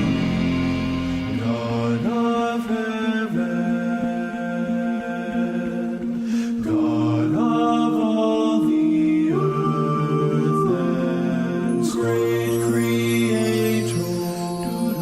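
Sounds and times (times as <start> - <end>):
slow worship song: 0.0 - 15.0.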